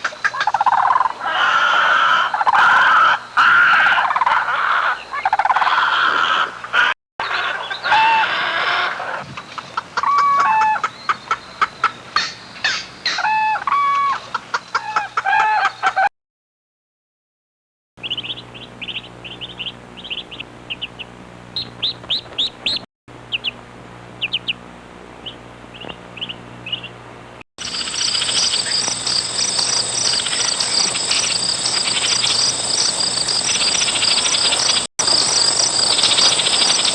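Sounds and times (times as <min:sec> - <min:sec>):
birds calling: 0:00.0 - 0:16.0, 0:18.0 - 0:23.6, 0:24.2 - 0:24.6, 0:25.2 - 0:36.9.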